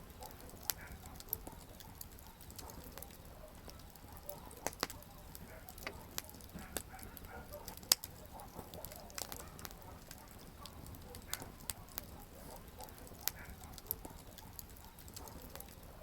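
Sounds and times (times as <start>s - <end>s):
campfire wood crackling: 0.0s - 16.0s
low rumble of flames: 0.0s - 16.0s.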